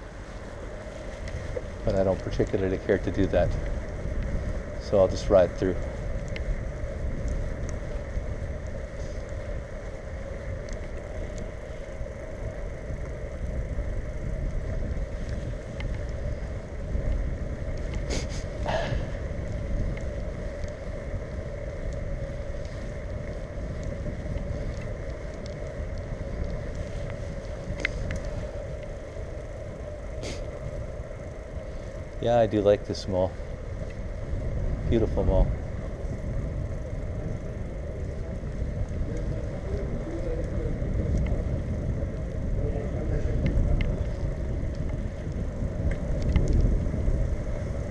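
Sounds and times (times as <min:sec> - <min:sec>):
bicycle tyres rolling: 0:00.0 - 0:47.9
steady hum: 0:00.0 - 0:47.9
wind rumbling on microphone: 0:00.0 - 0:47.9.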